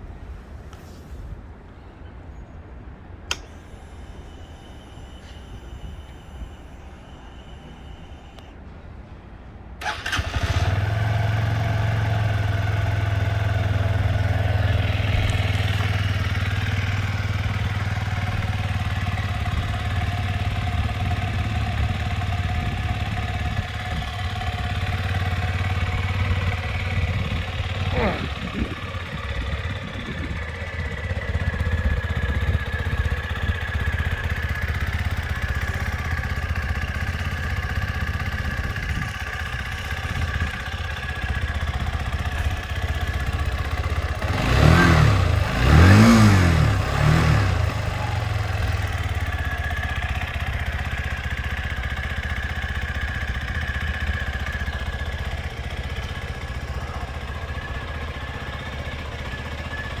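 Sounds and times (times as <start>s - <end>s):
motorcycle exhaust idling: 9.8s - 60.0s.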